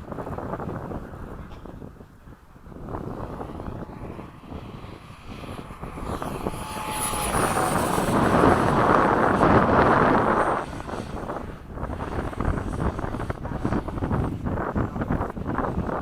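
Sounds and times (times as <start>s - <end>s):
model jet fan whining: 0.0s - 16.0s.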